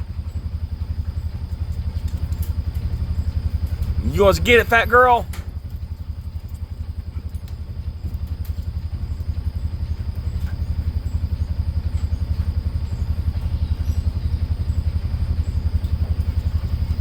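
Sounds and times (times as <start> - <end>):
engine idling with low throb: 0.0 - 17.0.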